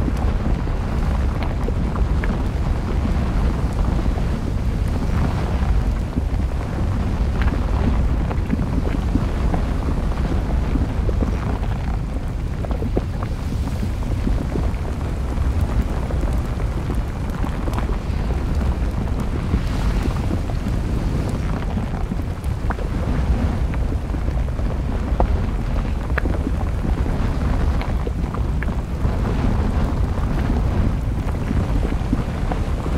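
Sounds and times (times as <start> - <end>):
low rumble of lava flow: 0.0 - 32.9
sharp crackles: 0.0 - 32.9.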